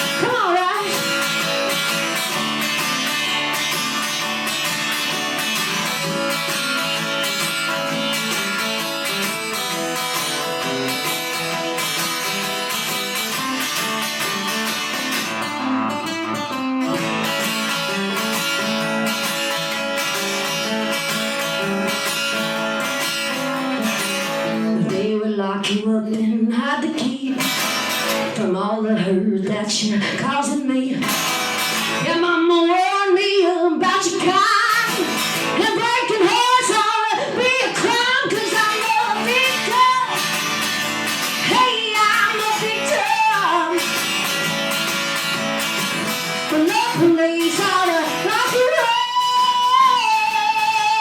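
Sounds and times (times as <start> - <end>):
guitar strumming: 0.0 - 25.8, 26.8 - 51.0.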